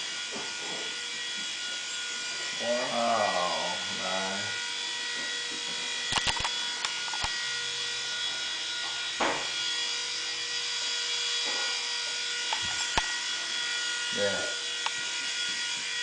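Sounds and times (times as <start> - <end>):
toy helicopter rotors whining: 0.0 - 16.0.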